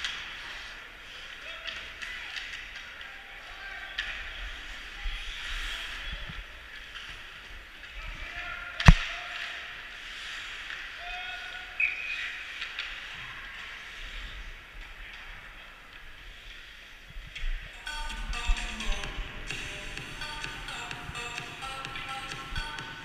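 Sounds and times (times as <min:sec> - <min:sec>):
crowd hubbub in ice rink: 0:00.0 - 0:23.0.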